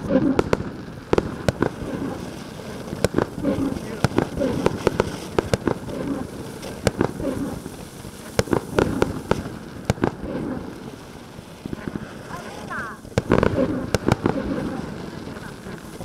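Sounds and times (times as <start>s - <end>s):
firework fountain rushing: 0.0s - 16.0s
firework sharp pops: 0.0s - 16.0s.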